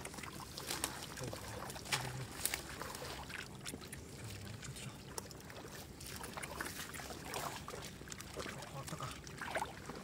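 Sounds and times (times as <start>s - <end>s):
muddy water splashing: 0.0s - 10.0s.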